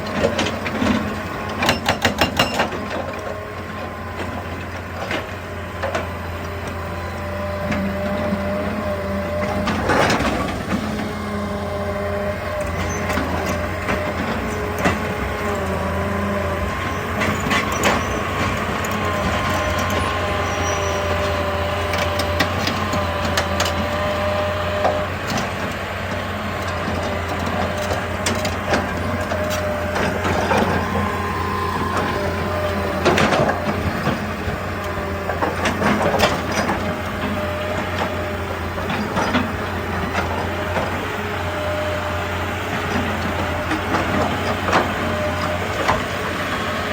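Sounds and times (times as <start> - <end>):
diesel engine running: 0.0 - 46.9
hydraulic whine: 3.3 - 46.9.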